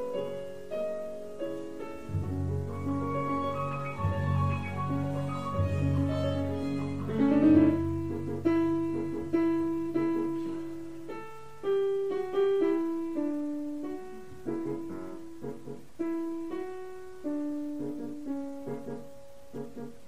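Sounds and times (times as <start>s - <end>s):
slow solo piano melody: 0.0s - 20.0s.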